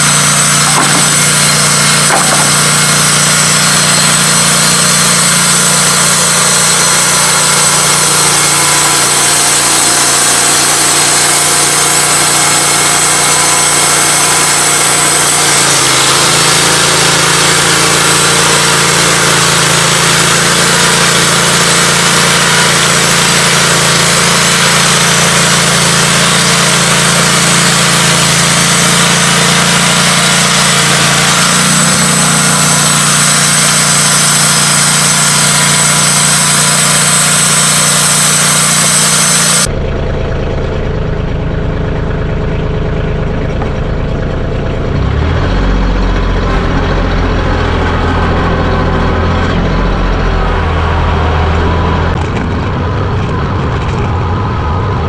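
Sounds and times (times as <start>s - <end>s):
band saw cutting log: 0.0s - 39.7s, 43.3s - 53.7s
gas engine running: 0.0s - 55.0s.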